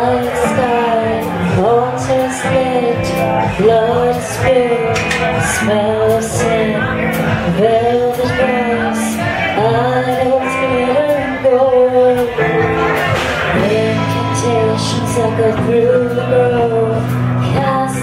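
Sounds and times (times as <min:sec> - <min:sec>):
doom metal band playing live: 0:00.0 - 0:18.0
woman singing: 0:00.0 - 0:18.0.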